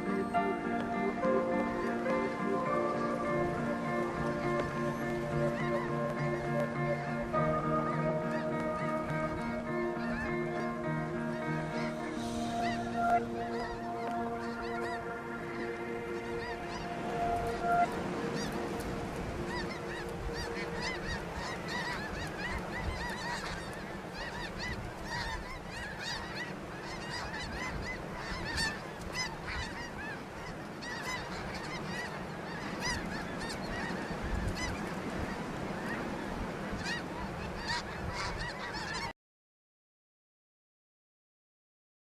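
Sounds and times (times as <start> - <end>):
flock of geese honking: 0.0 - 39.1.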